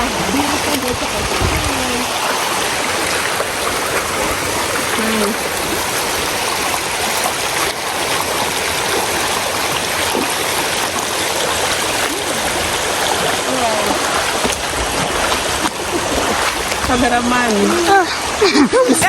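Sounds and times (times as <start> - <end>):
waterfall rushing and splashing: 0.0 - 19.0.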